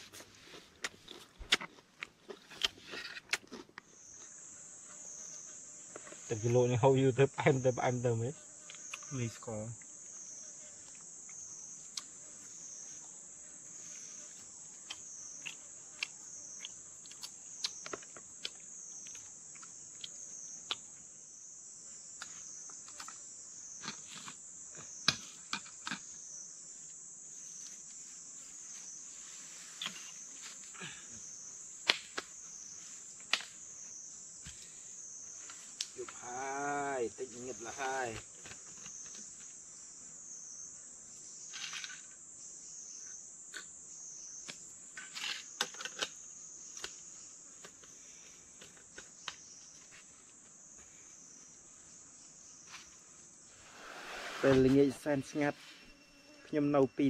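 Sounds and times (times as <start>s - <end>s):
insect chorus shrilling: 3.9s - 13.1s, 13.7s - 57.0s.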